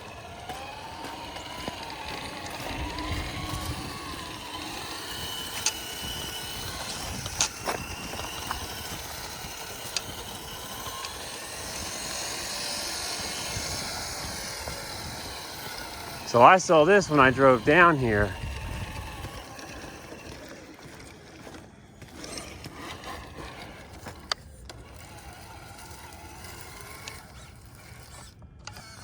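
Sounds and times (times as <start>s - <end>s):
toy car motor and gears whining: 0.0s - 29.0s.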